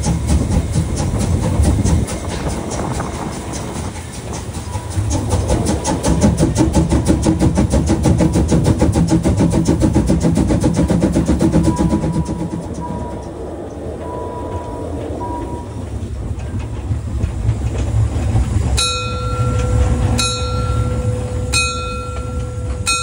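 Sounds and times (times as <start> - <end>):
steam train running past: 0.0 - 23.0.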